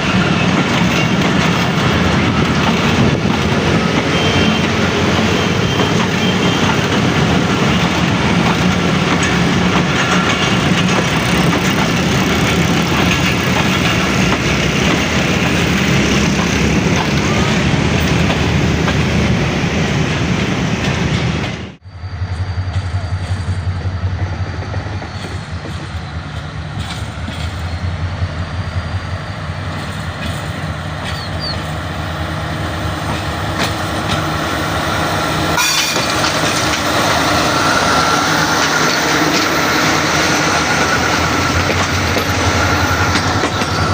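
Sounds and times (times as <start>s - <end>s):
low train hum: 0.0s - 43.9s
train rumbling past: 0.0s - 43.9s.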